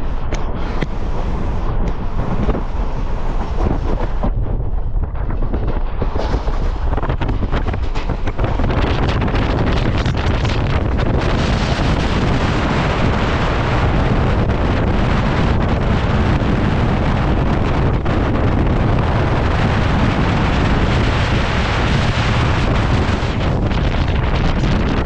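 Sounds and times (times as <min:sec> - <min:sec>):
train running noise: 0:00.0 - 0:25.0
wind buffeting microphone: 0:00.0 - 0:25.0.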